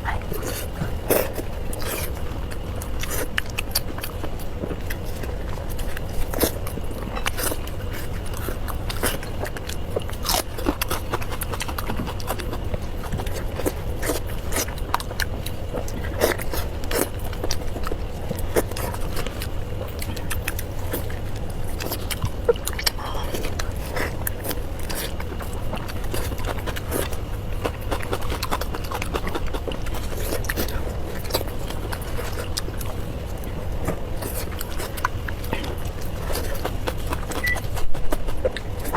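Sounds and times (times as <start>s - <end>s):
chewing and lip-smacking: 0.0s - 38.9s
steady low hum: 0.0s - 38.9s.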